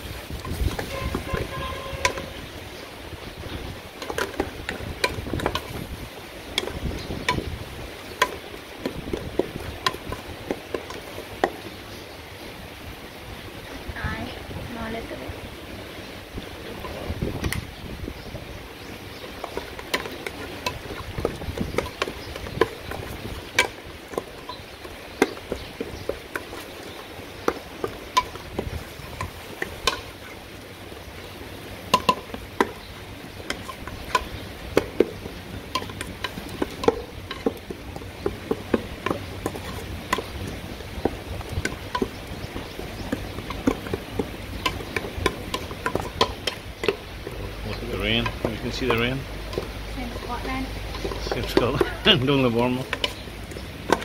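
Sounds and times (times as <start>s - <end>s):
wooden spatula scraping a pot: 0.2s - 2.5s, 3.5s - 11.7s, 19.2s - 30.4s, 31.9s - 54.0s.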